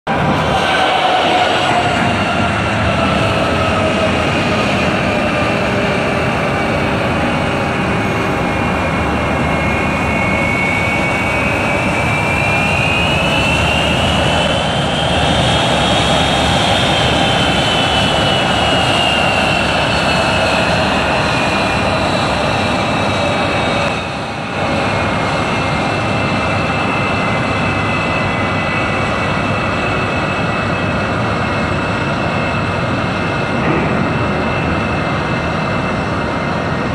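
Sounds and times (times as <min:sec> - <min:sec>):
jet engine roar with turbine whine: 0:00.1 - 0:36.9.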